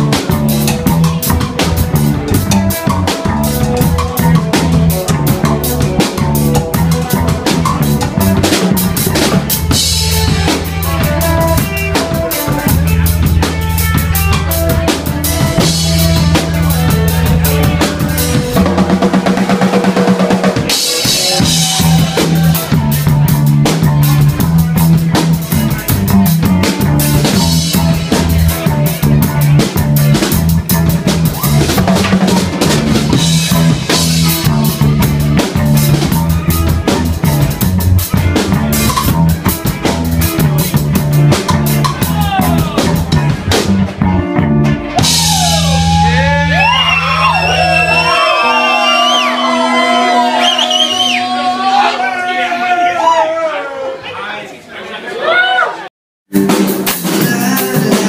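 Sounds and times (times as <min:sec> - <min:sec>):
drum kit with rimshots: 0:00.0 - 0:51.8, 0:56.3 - 0:58.0
electric bass line: 0:00.0 - 0:51.8
live reggae band: 0:00.0 - 0:52.2, 0:56.3 - 0:58.0.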